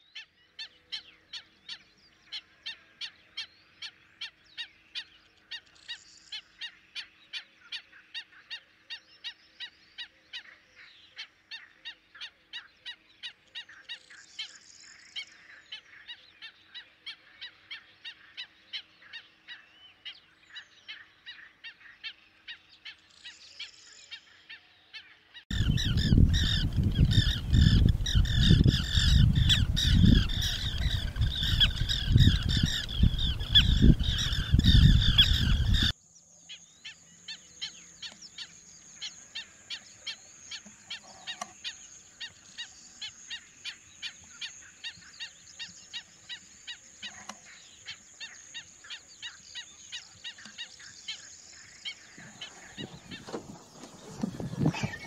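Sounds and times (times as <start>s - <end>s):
birds calling: 0.0s - 55.0s
flock of overlapping bird calls: 0.0s - 55.0s.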